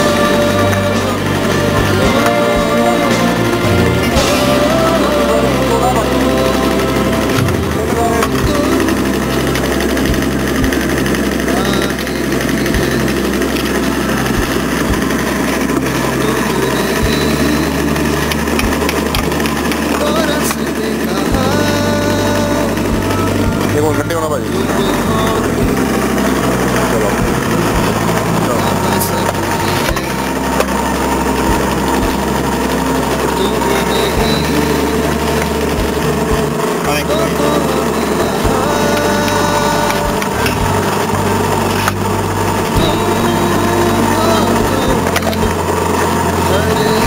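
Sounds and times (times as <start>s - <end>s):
brick making machine humming: 0.0s - 47.0s.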